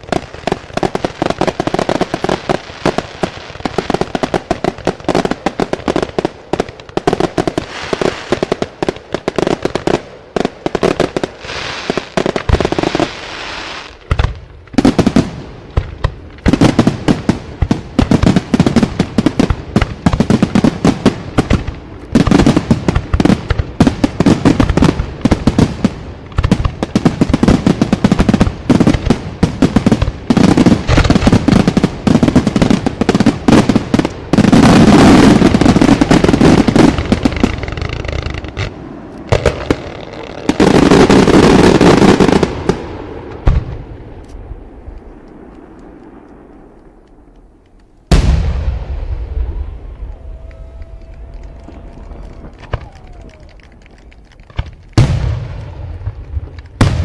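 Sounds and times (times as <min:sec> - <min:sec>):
firework crackle: 0:00.0 - 0:57.0.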